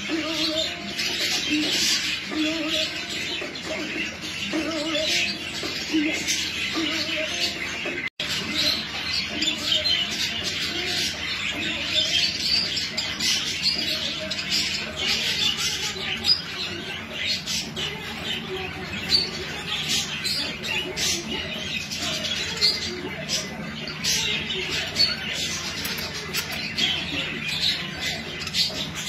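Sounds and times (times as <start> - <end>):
budgerigars chirping and squawking: 0.0 - 29.0.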